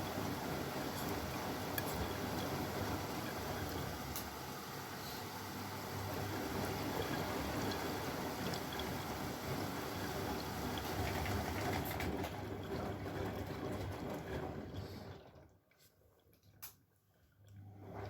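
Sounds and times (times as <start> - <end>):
washing machine motor hum: 0.0 - 15.5, 17.5 - 18.0.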